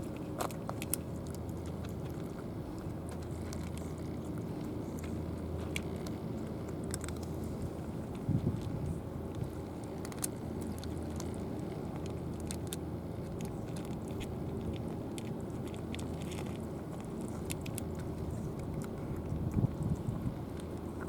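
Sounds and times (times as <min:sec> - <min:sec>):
cat crunching dry food: 0:00.0 - 0:21.0
low background rumble: 0:00.0 - 0:21.0.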